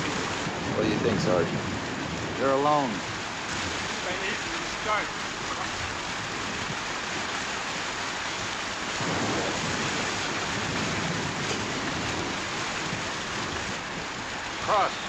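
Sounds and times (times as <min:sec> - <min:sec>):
heavy rainfall: 0:00.0 - 0:15.0.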